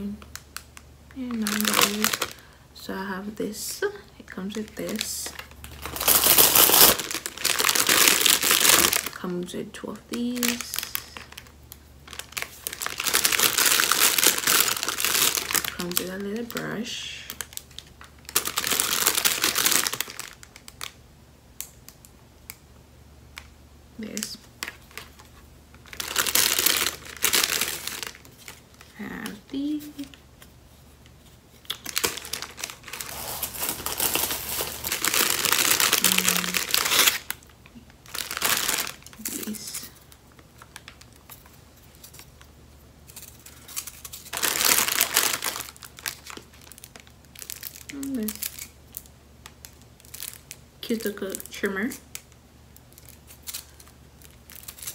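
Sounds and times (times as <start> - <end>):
plastic bag crinkling: 0.0 - 2.6, 4.5 - 9.3, 10.1 - 21.0, 24.0 - 54.9.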